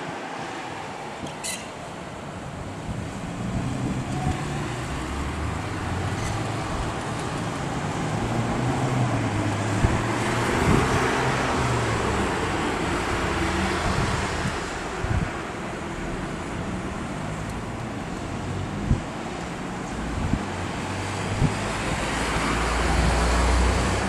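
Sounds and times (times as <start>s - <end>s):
road noise: 0.0s - 24.0s
vehicle engine humming: 0.7s - 24.0s.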